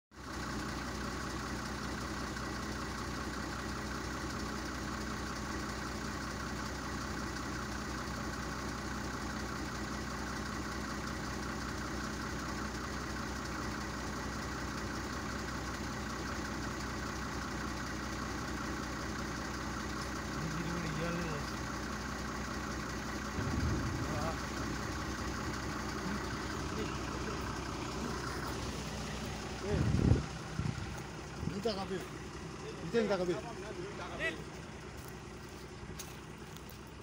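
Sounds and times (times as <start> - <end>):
engine idling: 0.1 - 37.0.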